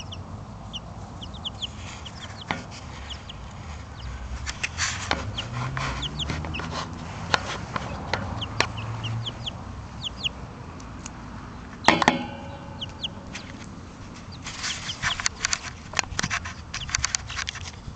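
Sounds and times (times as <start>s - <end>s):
chicks peeping: 0.0s - 17.9s.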